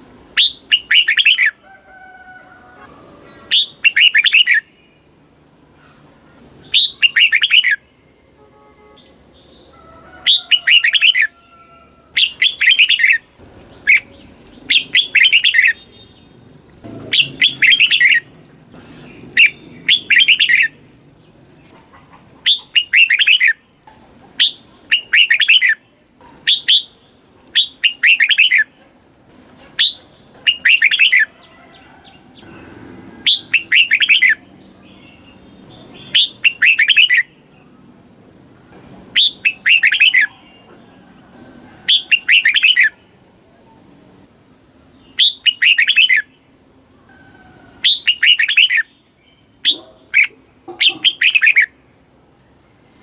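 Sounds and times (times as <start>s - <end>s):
bird singing bright phrases: 0.4s - 1.8s, 3.2s - 11.3s, 11.9s - 21.8s, 22.4s - 23.8s, 24.4s - 28.8s, 29.8s - 31.5s, 33.3s - 40.9s, 41.9s - 43.2s, 44.9s - 47.0s, 47.8s - 52.6s.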